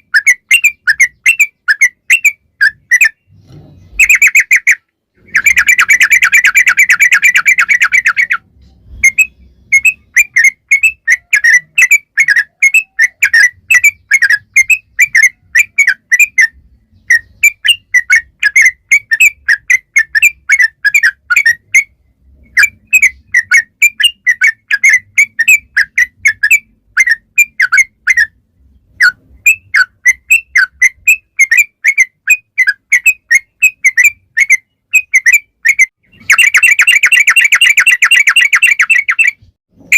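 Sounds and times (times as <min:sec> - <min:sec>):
bird whistled chirping song: 0:00.0 - 0:39.5.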